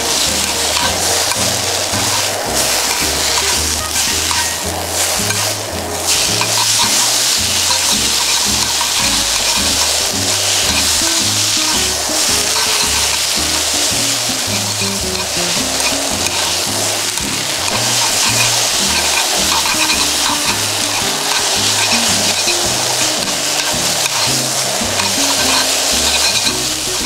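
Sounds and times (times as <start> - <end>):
noodles sizzling in a frying pan: 0.0 - 27.0.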